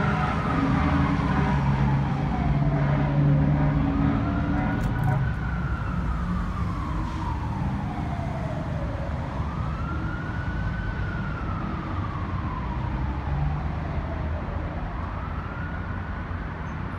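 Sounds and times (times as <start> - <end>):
fire truck siren wailing: 0.0 - 16.9
low rumble of traffic: 0.0 - 16.9.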